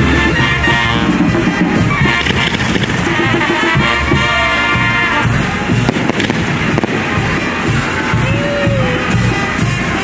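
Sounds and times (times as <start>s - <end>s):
fireworks bangs and crackles: 0.0s - 9.6s
music playing: 0.0s - 10.0s.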